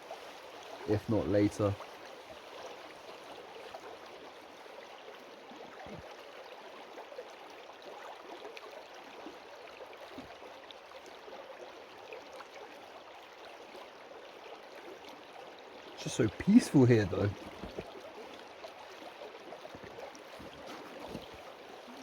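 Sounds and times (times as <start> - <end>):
stream babbling: 0.0 - 22.0.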